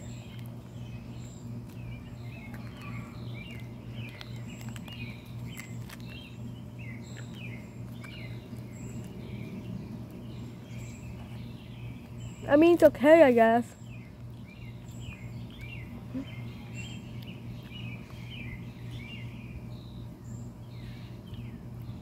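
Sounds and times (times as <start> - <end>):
birds chirping: 0.0 - 22.0
low steady hum: 0.0 - 22.0.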